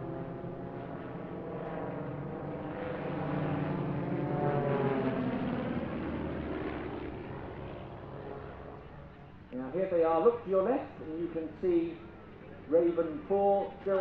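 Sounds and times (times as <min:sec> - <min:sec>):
propeller aircraft droning overhead: 0:00.0 - 0:14.0.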